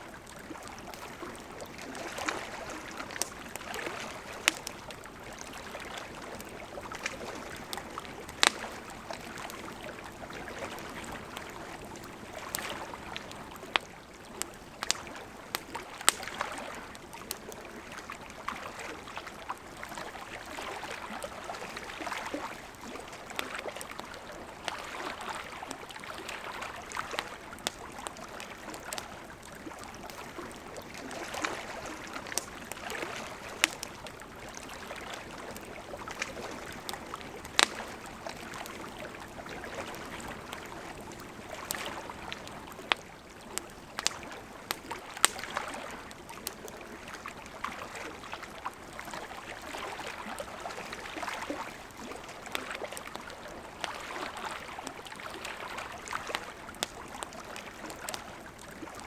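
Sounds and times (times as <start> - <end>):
gently flowing river: 0.0 - 59.0
campfire crackling and popping: 0.1 - 59.0.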